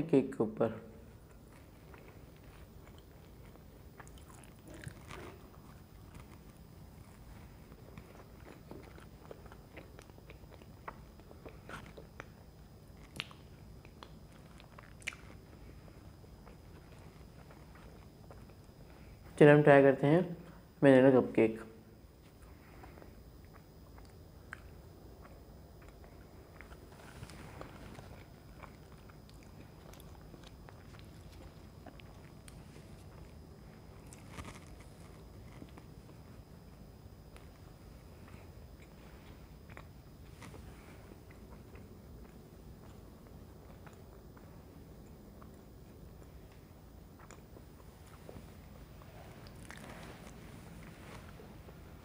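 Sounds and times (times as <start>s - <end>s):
person chewing cake: 1.0s - 19.4s, 22.0s - 52.0s.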